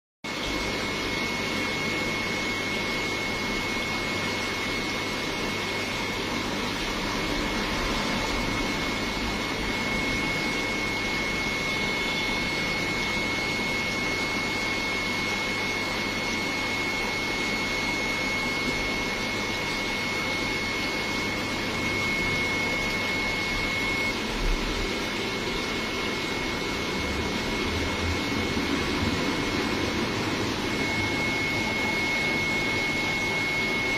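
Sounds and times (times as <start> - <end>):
aquarium air pump hum: 0.3 - 33.9
thin high whine: 0.3 - 33.9.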